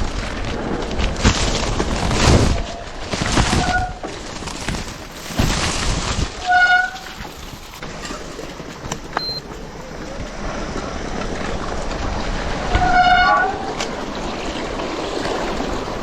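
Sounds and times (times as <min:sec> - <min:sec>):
bike rattling and rolling: 0:00.0 - 0:16.0.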